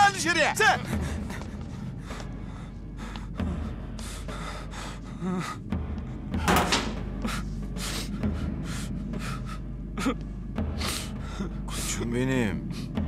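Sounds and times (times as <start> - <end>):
young man crying and sobbing: 0.0 - 13.0.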